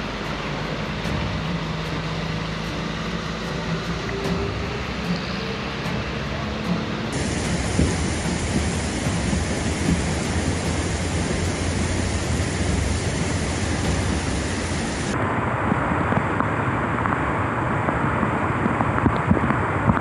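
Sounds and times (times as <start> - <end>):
floodwater rushing: 0.0 - 20.0
heavy rain: 0.0 - 20.0.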